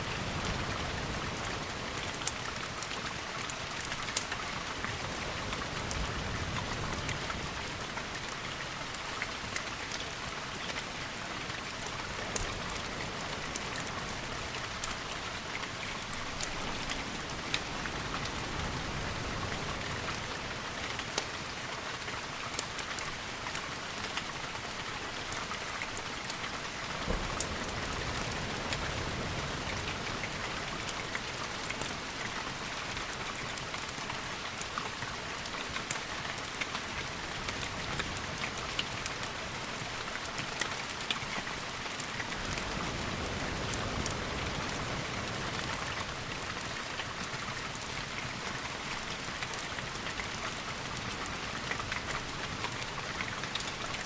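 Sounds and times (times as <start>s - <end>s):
rain on windows: 0.0s - 54.0s.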